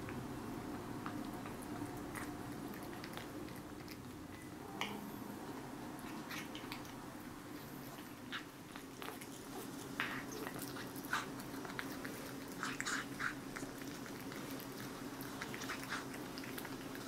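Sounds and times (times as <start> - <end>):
cat chewing and smacking: 0.0 - 17.0
low room hum: 0.0 - 17.0.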